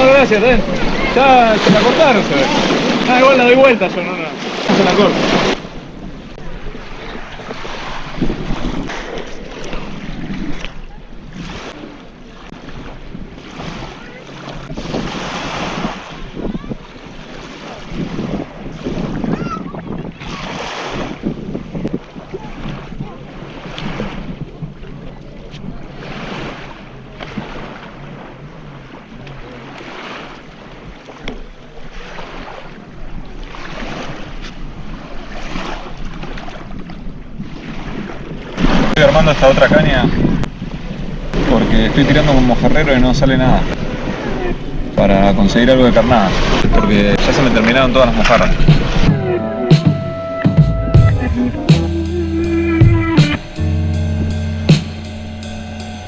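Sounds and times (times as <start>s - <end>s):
wind buffeting microphone: 0.0s - 49.2s
small waves washing: 0.0s - 49.3s.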